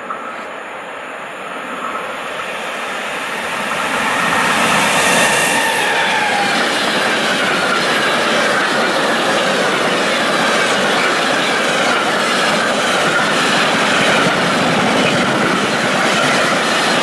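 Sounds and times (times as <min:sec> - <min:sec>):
train wheels rushing on rails: 0:00.0 - 0:17.0
wheels squealing: 0:02.0 - 0:17.0.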